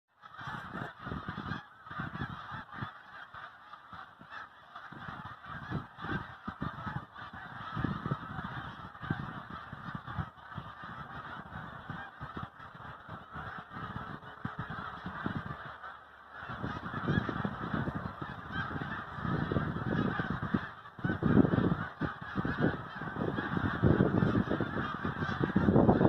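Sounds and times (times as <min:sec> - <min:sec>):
geese honking: 0:00.1 - 0:26.0.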